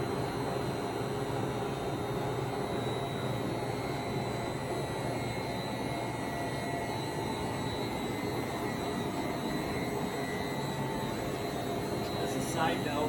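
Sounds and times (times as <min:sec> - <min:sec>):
lathe humming with high tones: 0:00.0 - 0:13.0.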